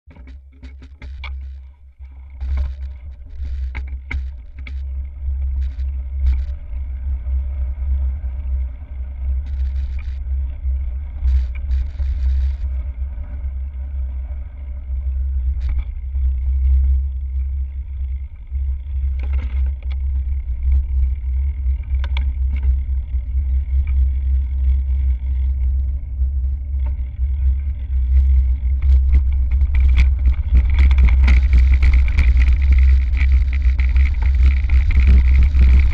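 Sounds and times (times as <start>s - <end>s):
bike clicks and rattles: 0.1s - 8.0s, 9.3s - 12.8s, 14.9s - 35.9s
bike tyres rumbling on gravel: 0.1s - 35.9s.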